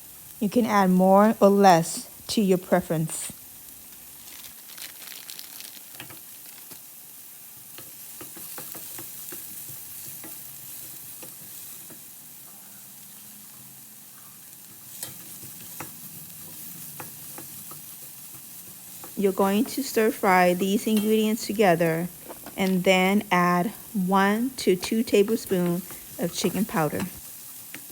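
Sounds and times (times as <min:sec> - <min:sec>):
curry paste sizzling in oil: 0:00.0 - 0:27.9.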